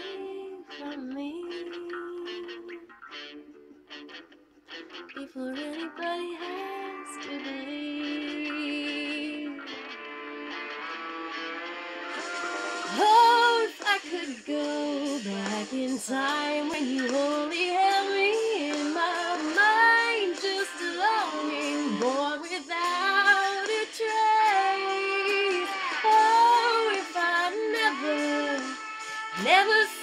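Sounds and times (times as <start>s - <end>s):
woman singing a ballad: 0.0s - 2.9s, 5.2s - 9.8s, 12.8s - 30.0s
musical accompaniment: 5.8s - 30.0s.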